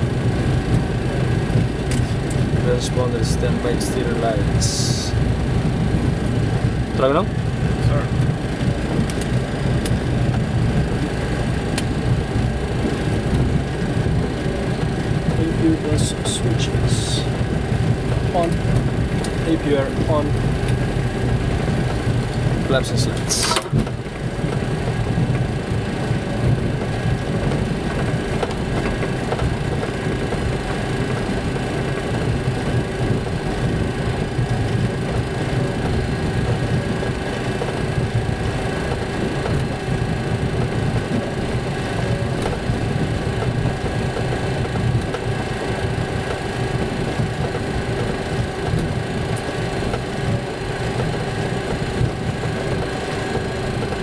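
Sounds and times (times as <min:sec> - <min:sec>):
airliner rumbling on runway: 0:00.0 - 0:54.0
constant hum: 0:00.0 - 0:54.0.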